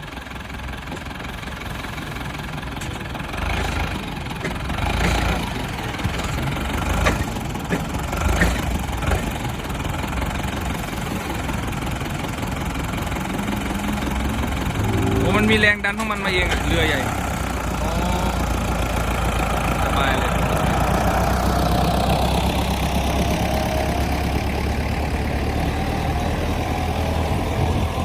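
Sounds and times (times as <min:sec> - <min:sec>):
engine running unevenly: 0:00.0 - 0:28.0.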